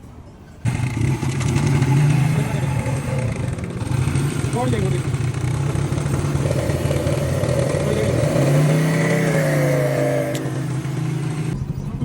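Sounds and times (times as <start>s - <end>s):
vehicle engine running: 0.6s - 12.0s.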